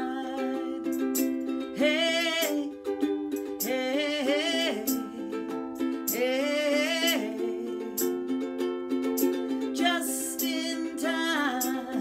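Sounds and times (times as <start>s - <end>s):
woman singing wordlessly: 0.0s - 8.3s, 9.7s - 12.0s
ukulele strumming: 0.0s - 12.0s.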